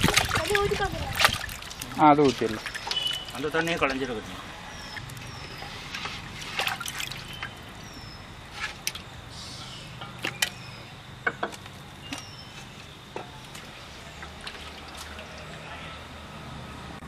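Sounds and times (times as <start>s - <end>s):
water splashing and sloshing: 0.0s - 16.5s.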